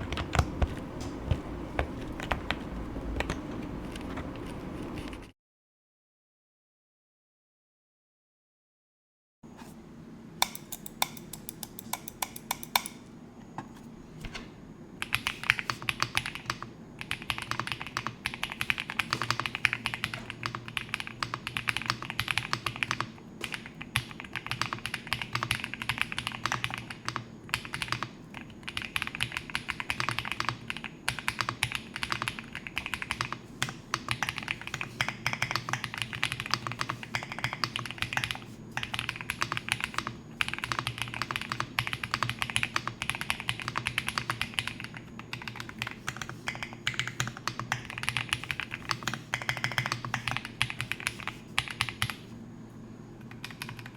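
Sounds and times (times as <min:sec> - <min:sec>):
mechanical keyboard typing: 0:00.0 - 0:05.3, 0:15.0 - 0:52.3, 0:53.2 - 0:53.9.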